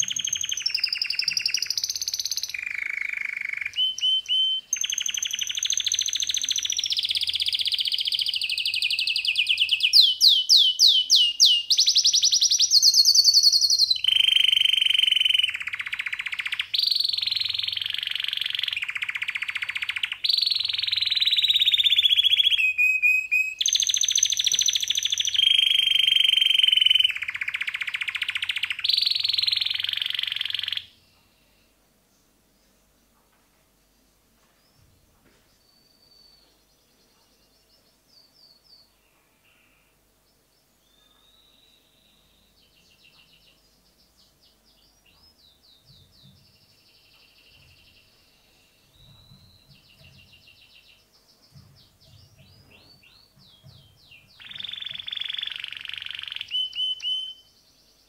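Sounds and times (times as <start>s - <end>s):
canary singing trills: 0.0s - 31.8s, 35.5s - 58.0s.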